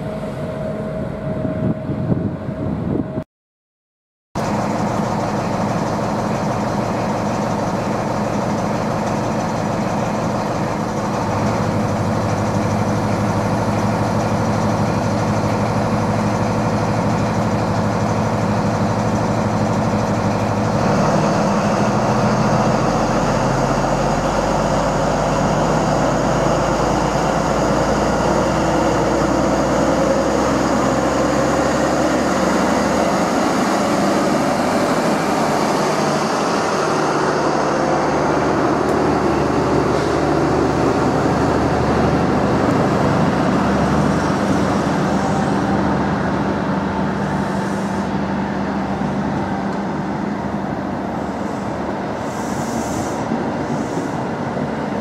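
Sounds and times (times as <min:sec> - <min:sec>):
train coaches rolling past: 0:00.0 - 0:02.7, 0:04.4 - 0:55.0
diesel train engine: 0:00.0 - 0:03.2, 0:04.4 - 0:55.0.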